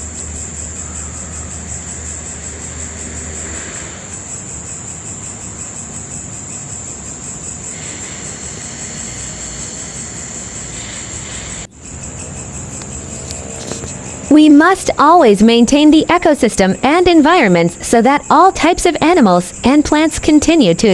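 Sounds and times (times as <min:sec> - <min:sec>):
insect trill: 0:00.0 - 0:20.9.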